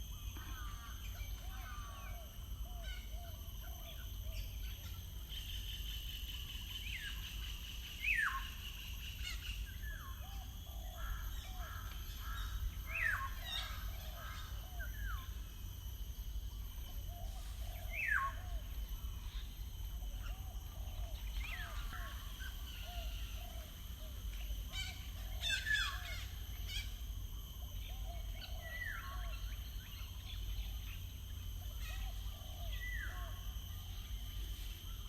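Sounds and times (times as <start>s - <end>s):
wild birds calling and singing: 0.0s - 35.0s.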